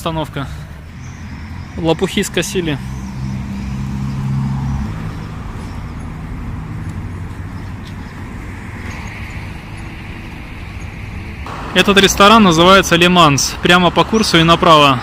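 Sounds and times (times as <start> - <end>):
background traffic noise: 0.0 - 15.0
vehicle engine running: 0.5 - 12.6.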